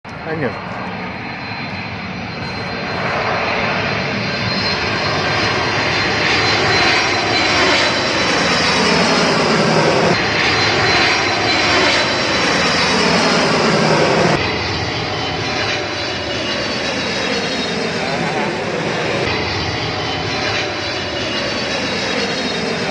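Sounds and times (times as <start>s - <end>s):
airplane engine passing: 0.1s - 22.9s.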